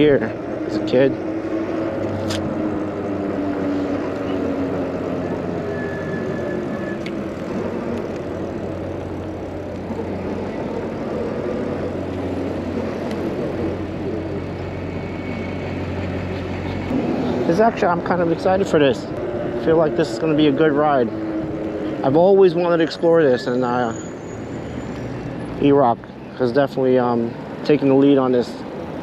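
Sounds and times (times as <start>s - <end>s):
city traffic and road noise: 0.0s - 29.0s.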